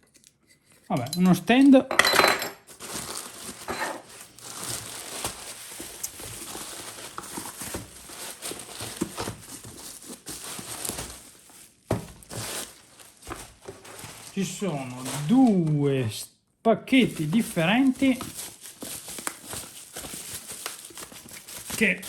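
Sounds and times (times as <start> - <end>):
cardboard and plastic rustling: 2.6 - 16.1, 16.9 - 22.0.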